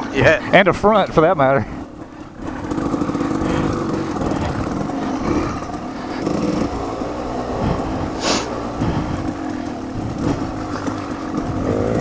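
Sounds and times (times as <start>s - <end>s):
off-road motorcycle engine: 0.0s - 12.0s.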